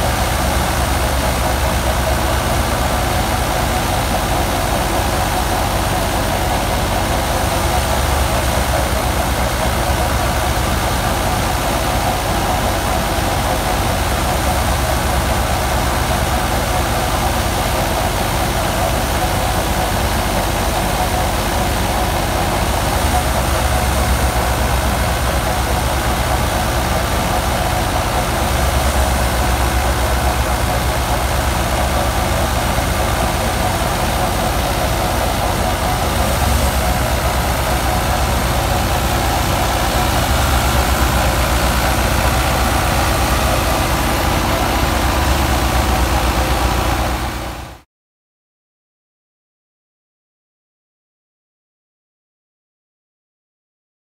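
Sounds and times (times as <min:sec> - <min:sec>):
thresher rushing noise: 0:00.0 - 0:47.8
tractor diesel engine rumble: 0:00.0 - 0:47.8.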